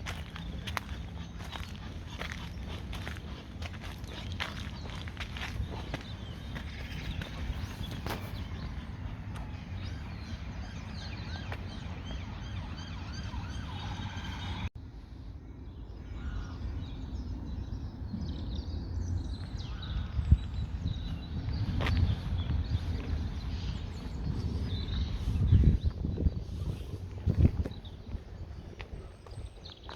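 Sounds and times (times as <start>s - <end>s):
small birds chirping: 0.0s - 14.7s, 15.8s - 29.9s
low outdoor rumble: 0.0s - 29.9s.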